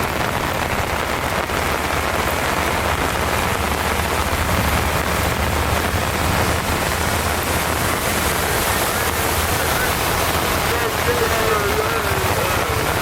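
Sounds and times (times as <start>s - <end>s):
constant low rumble: 0.0s - 13.0s
heavy rain falling: 0.0s - 13.0s.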